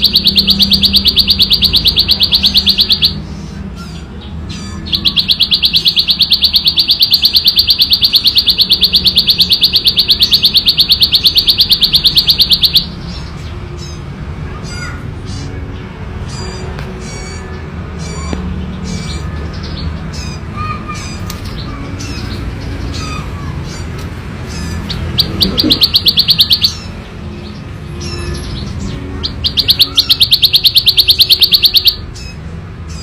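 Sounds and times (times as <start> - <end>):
bird trilling: 0.0 - 33.0.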